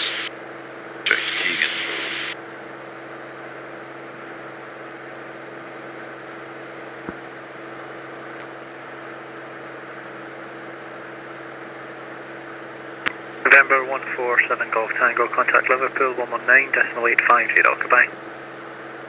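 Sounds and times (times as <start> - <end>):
aircraft engine and propeller drone: 0.0 - 19.0.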